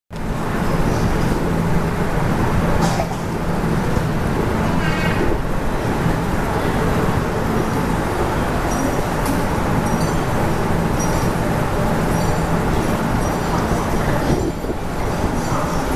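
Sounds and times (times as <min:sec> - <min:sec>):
metro train rumbling: 0:00.1 - 0:15.9.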